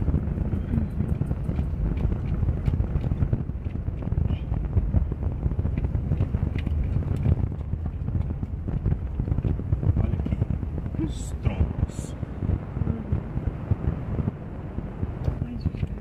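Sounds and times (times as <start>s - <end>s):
car tyres rumbling on dirt road: 0.0s - 16.0s.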